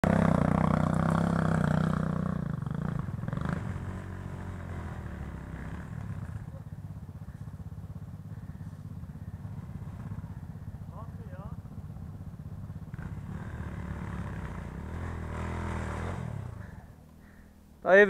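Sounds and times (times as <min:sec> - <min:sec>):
dirt bike engine: 0:00.0 - 0:18.0.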